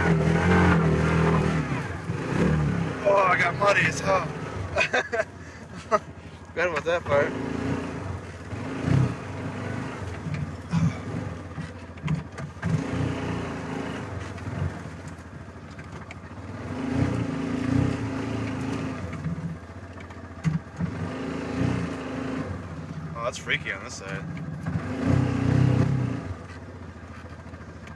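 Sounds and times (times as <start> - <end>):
vehicle engine revving: 0.0 - 27.9.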